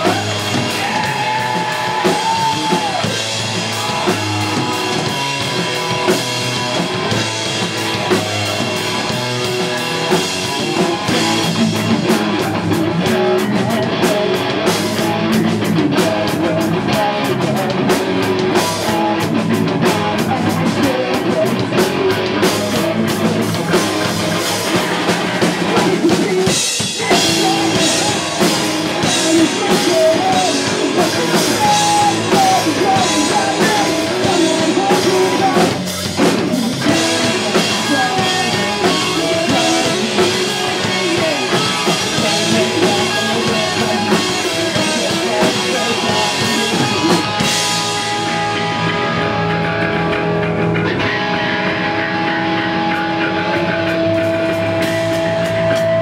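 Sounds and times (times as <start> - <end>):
drum kit with cymbals: 0.0 - 51.2
distorted guitars and bass: 0.0 - 56.0.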